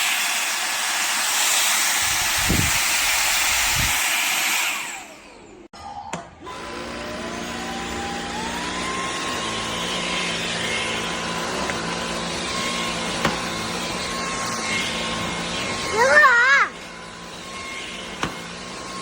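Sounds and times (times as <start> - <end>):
vacuum cleaner motor running: 0.0 - 5.7, 6.4 - 19.0.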